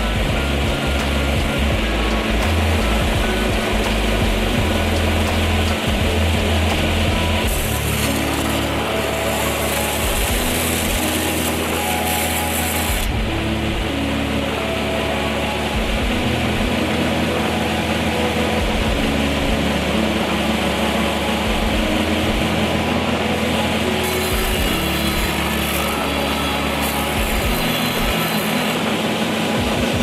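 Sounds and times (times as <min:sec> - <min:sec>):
background music with bass: 0:00.0 - 0:30.0
sander grinding wood: 0:00.0 - 0:30.0.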